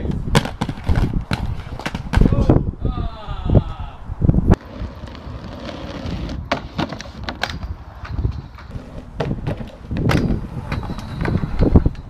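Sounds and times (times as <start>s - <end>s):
wind on microphone: 0.0s - 12.0s
skate wheels rolling on tarmac: 0.1s - 2.3s, 4.4s - 12.0s.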